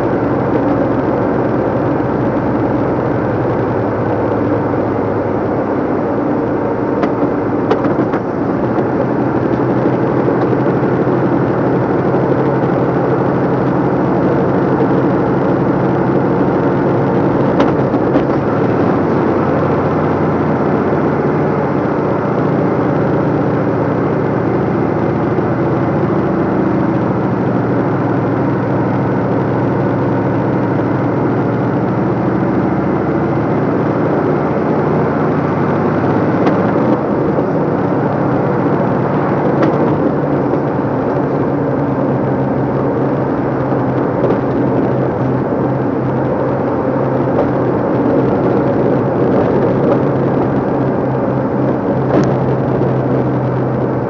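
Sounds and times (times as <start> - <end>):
diesel engine running: 0.0 - 54.0
road noise: 0.0 - 54.0.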